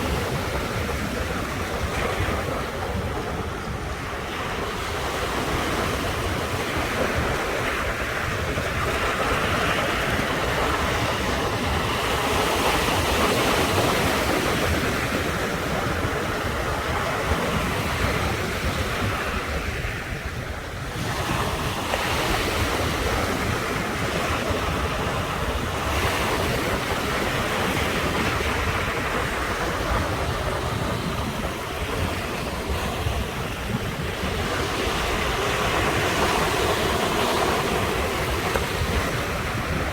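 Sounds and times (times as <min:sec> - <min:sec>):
ocean surf washing ashore: 0:00.0 - 0:39.9.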